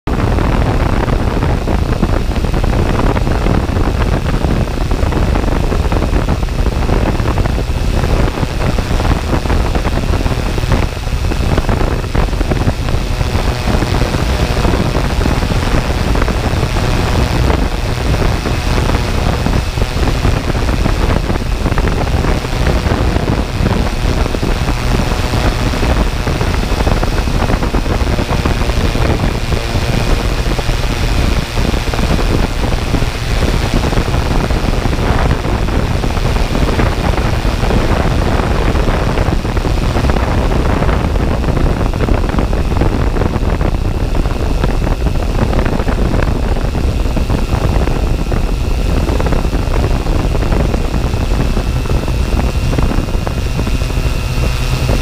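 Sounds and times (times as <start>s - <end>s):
drone propellers rushing: 0.1s - 55.0s.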